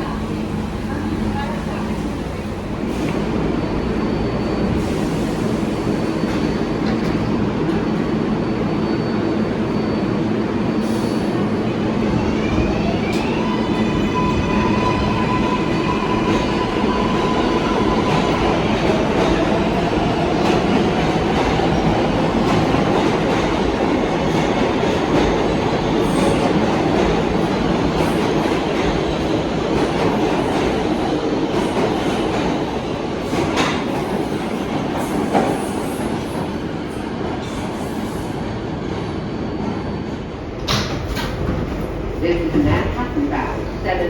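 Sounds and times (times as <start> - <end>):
subway train wheels on rails: 0.0 - 44.0.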